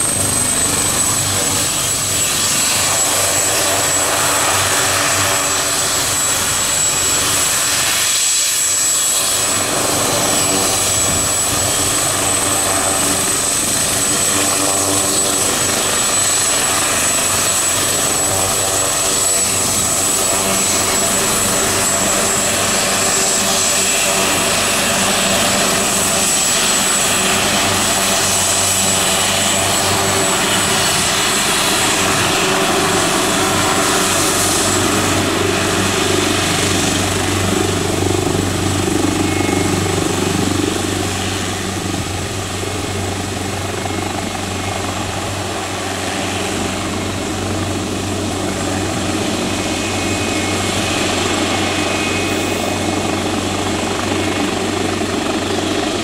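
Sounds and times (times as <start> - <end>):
helicopter engines and rotors: 0.0 - 56.0
high turbine whine: 0.0 - 56.0.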